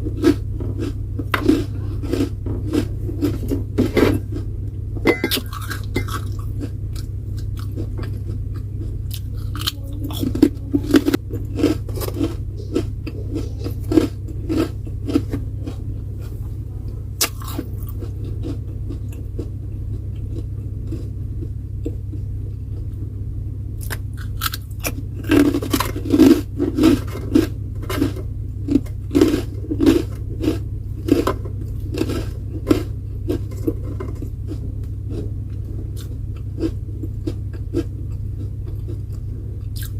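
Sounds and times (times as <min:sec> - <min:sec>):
person chewing crunchy food: 0:00.0 - 0:39.9
steady low hum: 0:00.0 - 0:39.9.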